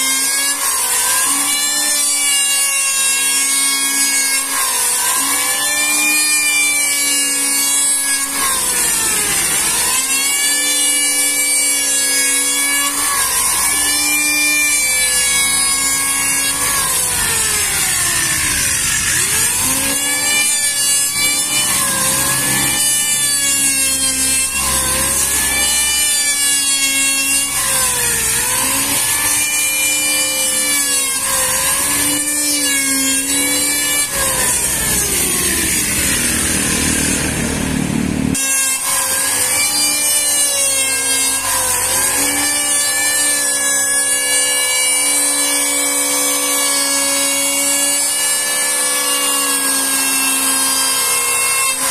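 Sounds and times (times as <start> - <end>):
electric wood planer whining: 0.0 - 51.9.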